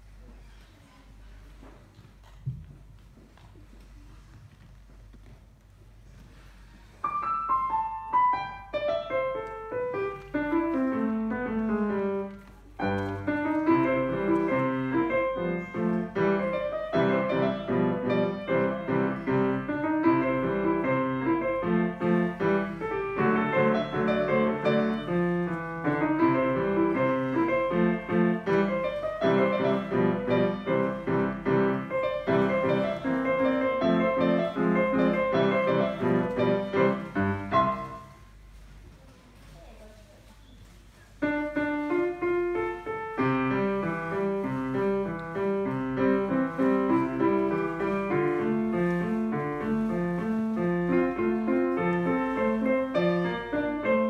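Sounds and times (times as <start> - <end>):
solo grand piano: 5.4 - 39.1, 40.3 - 54.0.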